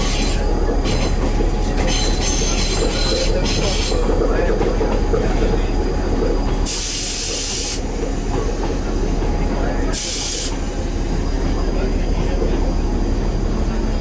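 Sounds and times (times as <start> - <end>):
diesel railcar rumbling: 0.0 - 14.0.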